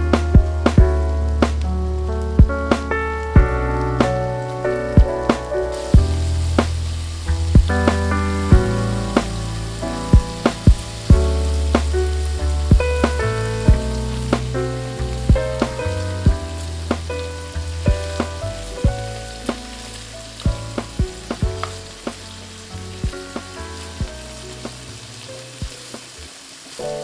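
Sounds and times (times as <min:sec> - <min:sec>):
background music with bass: 0:00.0 - 0:26.0
bacon sizzling in a pan: 0:03.6 - 0:27.0.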